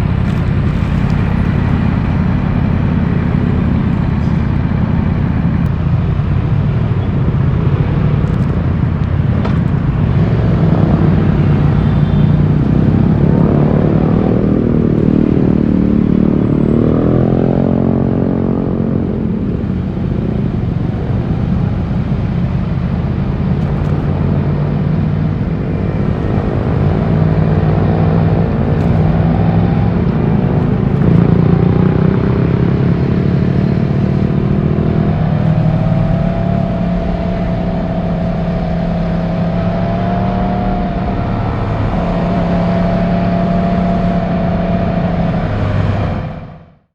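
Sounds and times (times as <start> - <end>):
motorcycle engine accelerating: 0.0 - 46.9
road noise: 0.0 - 46.9.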